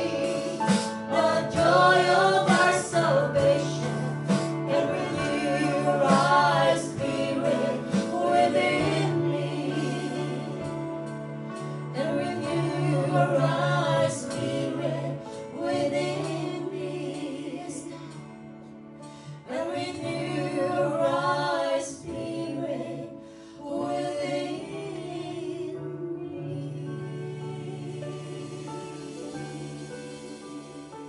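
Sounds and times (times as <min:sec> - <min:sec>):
electronic keyboard chords: 0:00.0 - 0:22.4, 0:23.8 - 0:31.0
women singing worship song: 0:00.0 - 0:31.0.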